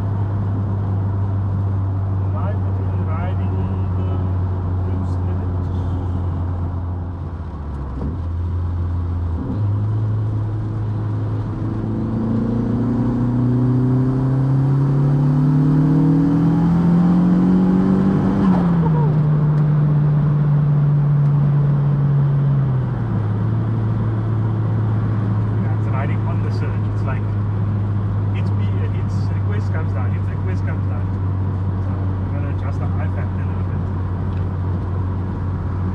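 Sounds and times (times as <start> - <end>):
car engine revving under load: 0.0 - 35.9.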